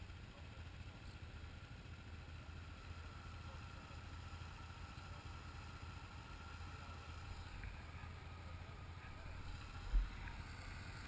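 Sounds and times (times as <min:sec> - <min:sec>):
faint thin whine: 0:00.0 - 0:11.0
vehicle engine idling: 0:00.0 - 0:11.0.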